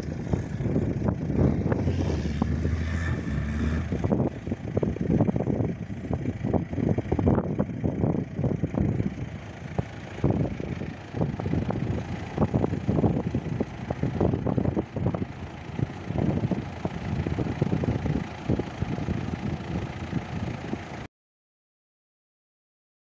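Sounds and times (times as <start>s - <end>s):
wind buffeting microphone: 0.0s - 21.0s
low engine note: 0.0s - 21.1s.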